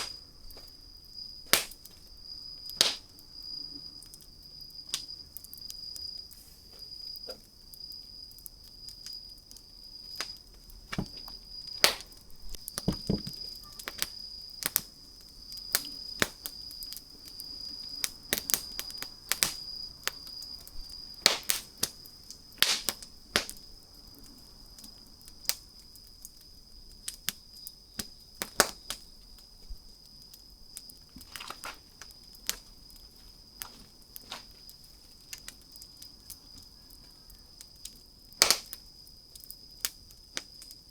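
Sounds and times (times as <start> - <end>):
wood campfire crackling: 0.0 - 40.9.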